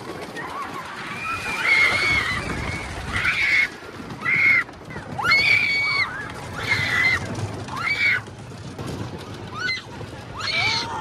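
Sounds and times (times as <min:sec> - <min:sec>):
riders screaming: 0:00.0 - 0:11.0.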